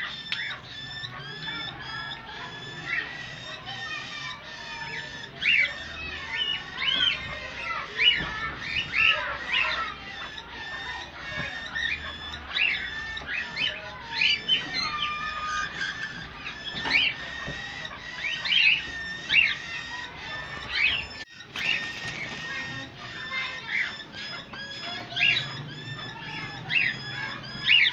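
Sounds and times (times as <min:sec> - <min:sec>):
cockatiels chirping and calling: 0:00.0 - 0:27.9.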